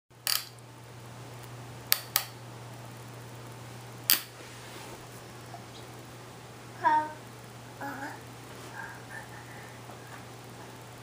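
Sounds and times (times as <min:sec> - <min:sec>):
steady low hum: 0:00.1 - 0:11.0.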